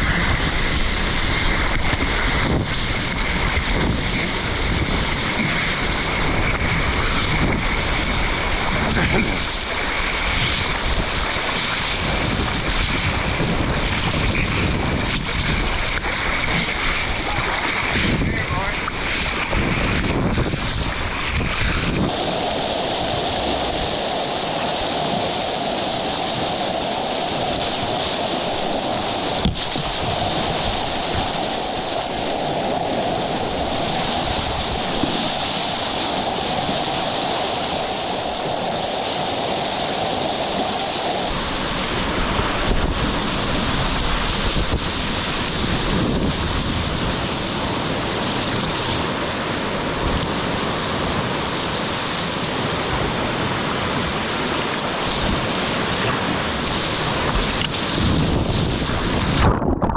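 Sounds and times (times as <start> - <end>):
whitewater rushing: 0.0 - 59.9
wind on microphone: 0.0 - 59.9.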